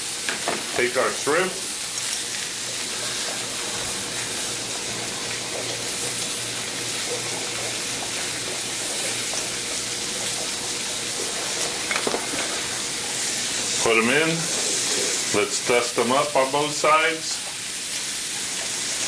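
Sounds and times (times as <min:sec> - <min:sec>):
steak sizzling on a griddle: 0:00.0 - 0:19.0.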